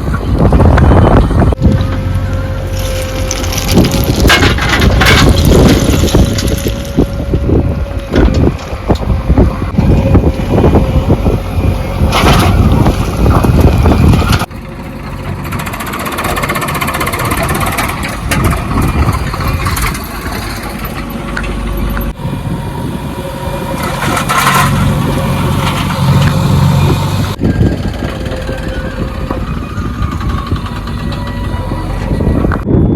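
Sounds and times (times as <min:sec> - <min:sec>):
heavy machinery diesel engines: 0:00.0 - 0:32.9
wind buffeting microphone: 0:00.0 - 0:32.9.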